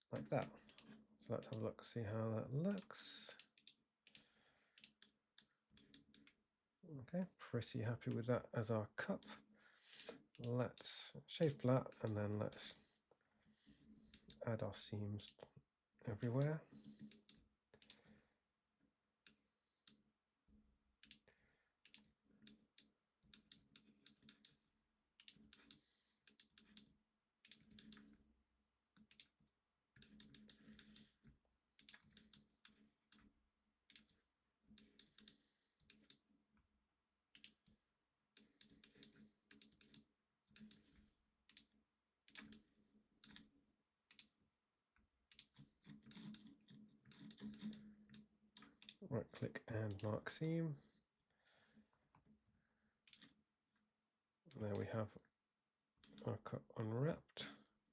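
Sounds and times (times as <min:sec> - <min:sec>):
faint mouse and keyboard clicking: 0:00.2 - 0:06.4, 0:08.0 - 0:18.2, 0:19.2 - 0:20.1, 0:21.0 - 0:28.3, 0:28.9 - 0:36.7, 0:37.3 - 0:53.8, 0:54.5 - 0:55.1, 0:56.0 - 0:56.4.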